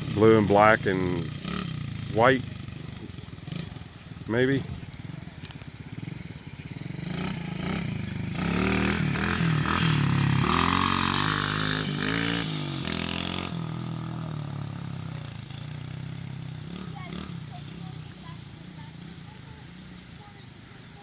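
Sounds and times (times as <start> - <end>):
pit bike engine revving: 0.0 - 20.4.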